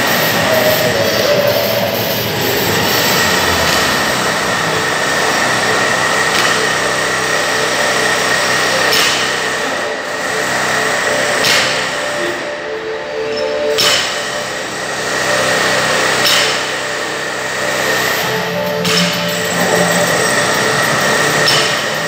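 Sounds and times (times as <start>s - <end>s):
faint high whine: 0.0s - 22.0s
steady loud noise: 0.0s - 22.0s.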